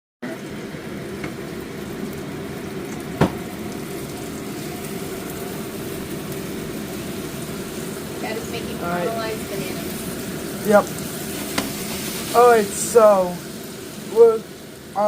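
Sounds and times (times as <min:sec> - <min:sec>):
bananas sizzling in a frying pan: 0:00.2 - 0:15.0.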